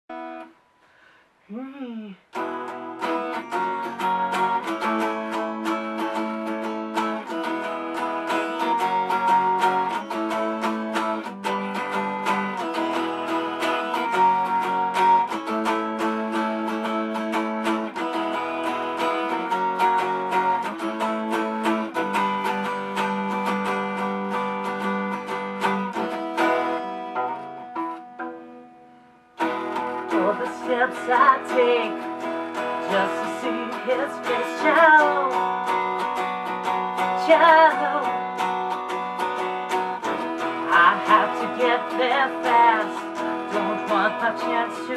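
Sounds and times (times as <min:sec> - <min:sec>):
strummed guitar chords: 0:02.3 - 0:44.9.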